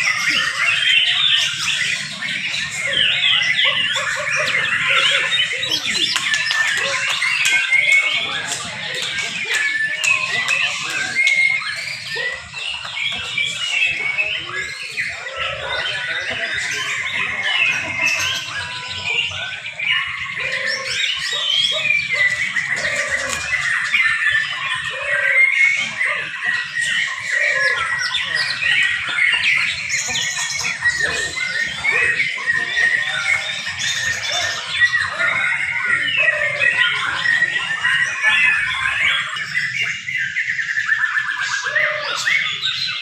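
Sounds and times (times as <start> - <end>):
birds chirping trilling and whistling: 0.0 - 43.0.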